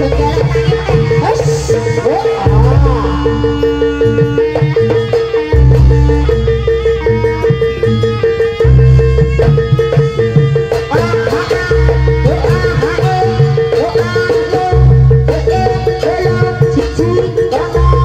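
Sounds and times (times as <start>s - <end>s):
clanging metal percussion: 0.0s - 18.0s
heavy drum pulses: 0.0s - 18.0s
high wailing melody: 0.0s - 18.0s.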